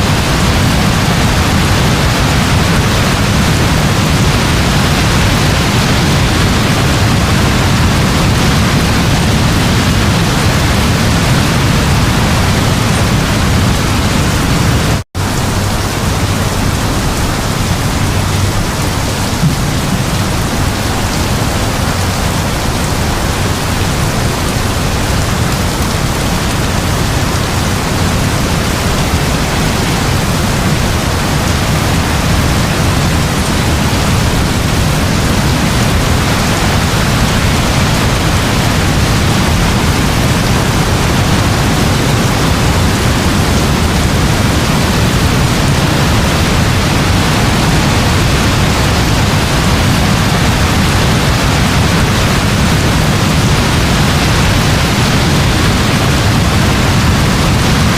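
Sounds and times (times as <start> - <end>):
distant thunder rumble: 0.0 - 57.9
heavy rain: 0.0 - 57.9.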